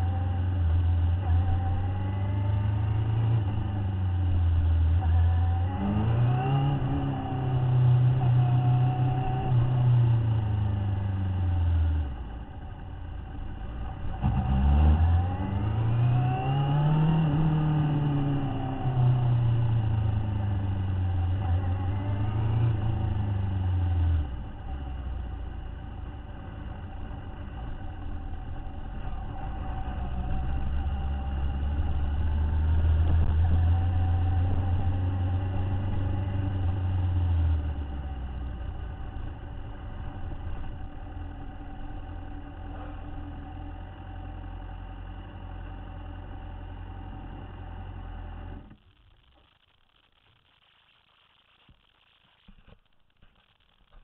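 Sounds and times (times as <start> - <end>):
motorcycle engine revving: 0.0 - 48.8.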